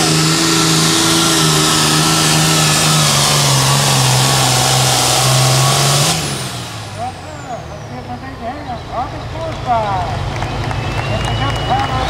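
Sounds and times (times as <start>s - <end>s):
tractor diesel engine at high revs: 0.0s - 12.0s.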